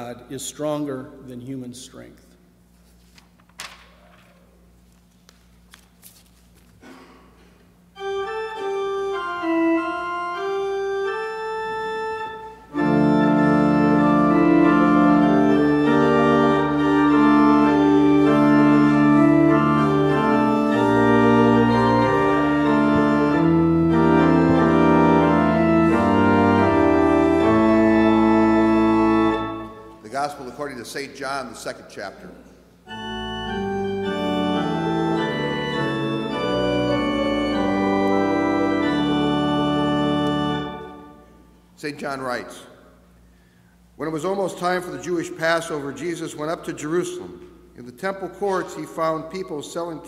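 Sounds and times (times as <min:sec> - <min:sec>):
church organ playing: 0:00.0 - 0:02.1, 0:07.8 - 0:50.0.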